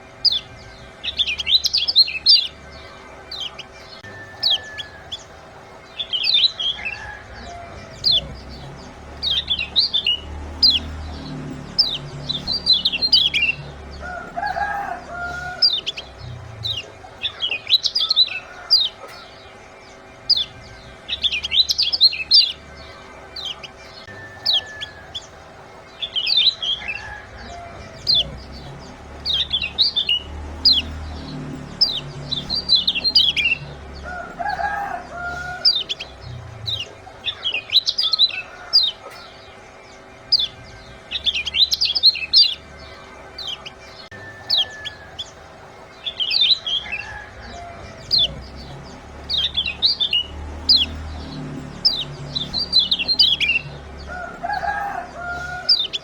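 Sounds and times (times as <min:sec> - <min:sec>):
white-eye bird chirping: 0:00.0 - 0:56.0.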